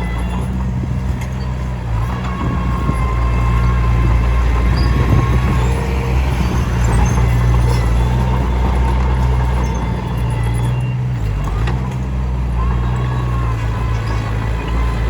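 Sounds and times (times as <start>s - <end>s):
bulldozer diesel engine running: 0.0s - 15.0s
continuous rattle: 0.0s - 15.0s.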